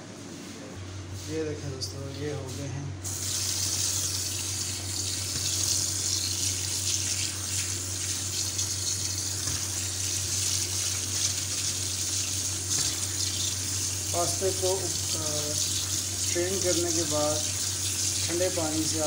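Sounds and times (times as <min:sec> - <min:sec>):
tap water running into colander: 0:03.1 - 0:19.0
hand stirring pasta splashing: 0:03.2 - 0:19.0.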